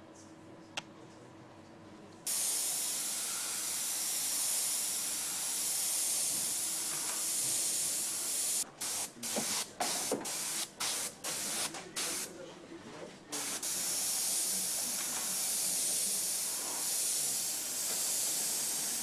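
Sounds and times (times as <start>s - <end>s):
airbrush hissing: 2.3s - 12.3s, 13.3s - 19.0s.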